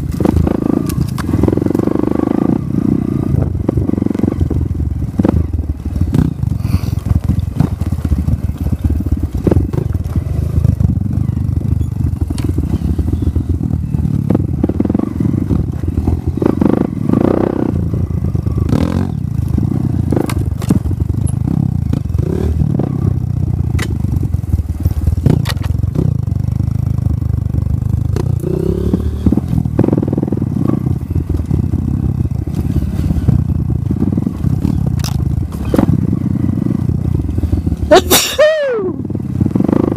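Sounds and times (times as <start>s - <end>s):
bike knocking and rattling: 0.0s - 38.4s
motorcycle engine running: 0.0s - 39.9s.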